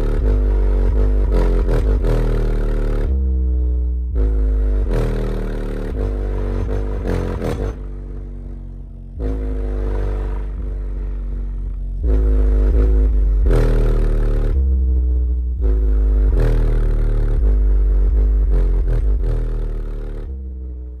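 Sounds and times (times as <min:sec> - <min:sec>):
subwoofer playing deep bass notes: 0:00.0 - 0:21.0.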